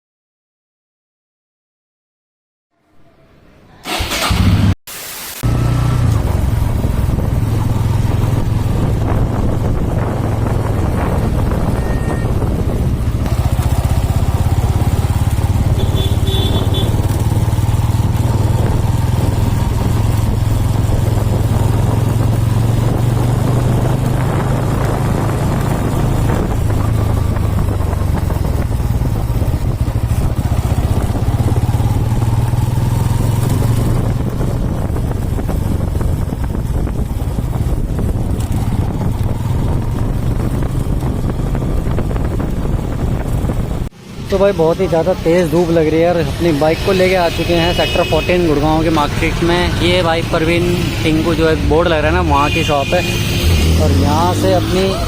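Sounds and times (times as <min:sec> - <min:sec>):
wind and road noise: 0:03.8 - 0:55.0
motorcycle engine running: 0:05.4 - 0:55.0.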